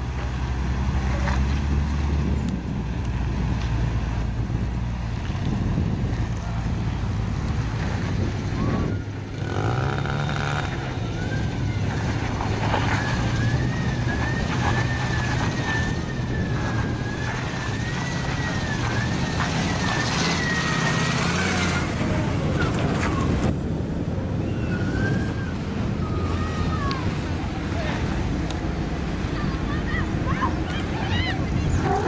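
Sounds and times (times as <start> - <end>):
truck engines revving: 0.0 - 32.0
wind: 0.0 - 32.0.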